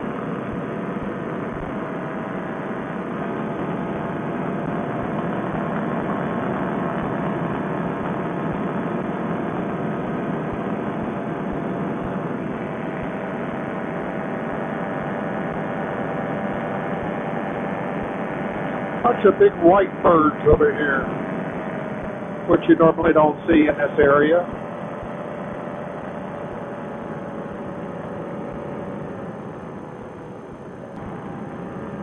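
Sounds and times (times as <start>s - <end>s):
muffled engine and propeller drone: 0.0s - 32.0s.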